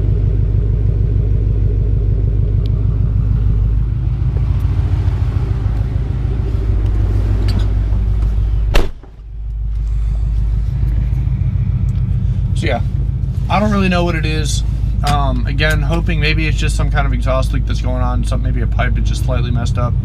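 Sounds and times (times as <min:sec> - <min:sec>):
car engine idling: 0:00.0 - 0:20.0
deep thumping from exhaust: 0:00.0 - 0:20.0.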